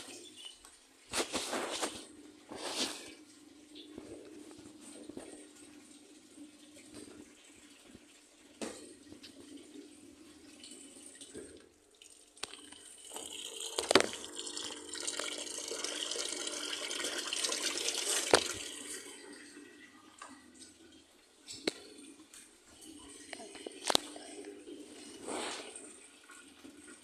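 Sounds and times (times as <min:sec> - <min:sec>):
water running: 0:00.0 - 0:27.0.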